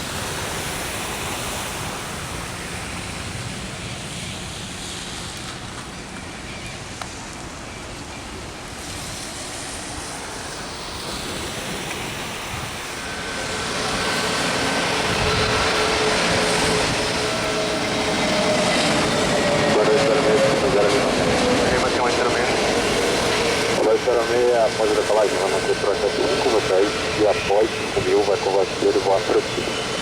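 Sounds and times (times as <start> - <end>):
jet airliner engines whining: 0.0 - 30.0.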